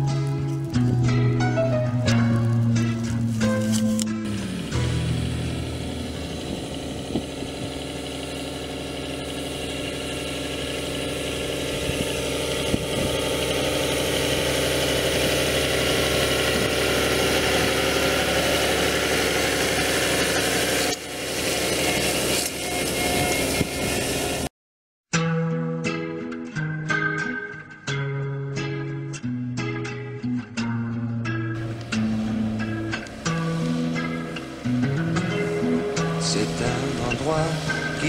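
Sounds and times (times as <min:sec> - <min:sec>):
tractor diesel engine running: 0:00.0 - 0:24.5, 0:31.6 - 0:38.0.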